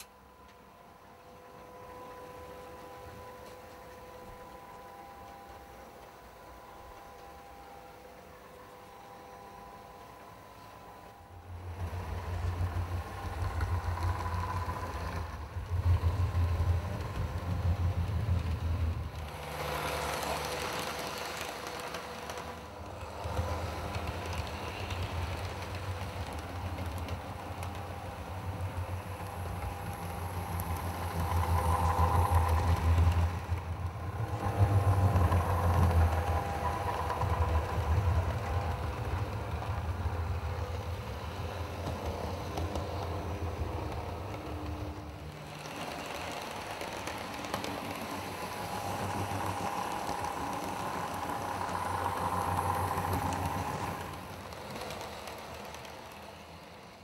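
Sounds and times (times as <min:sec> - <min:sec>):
model train motor hum: 0:00.0 - 0:57.0
wheels rumbling on track: 0:10.0 - 0:57.0.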